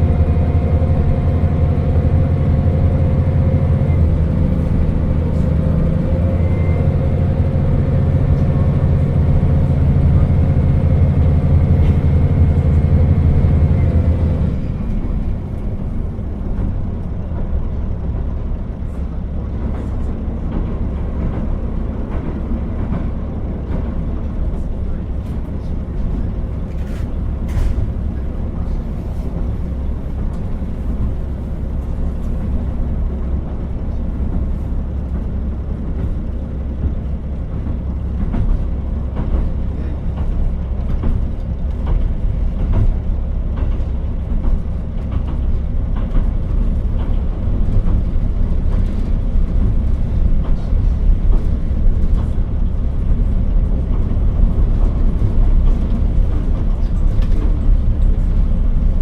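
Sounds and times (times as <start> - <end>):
train engine and wheels rumbling: 0.0 - 59.0.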